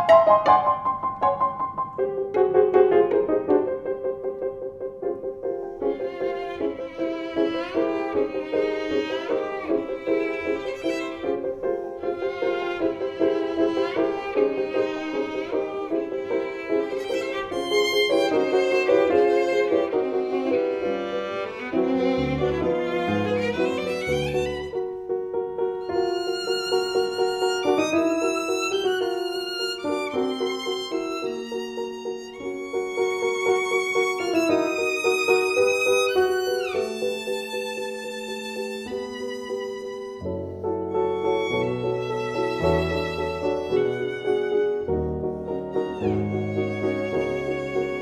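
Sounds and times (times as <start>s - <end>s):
violin melody with vibrato: 5.8s - 48.0s.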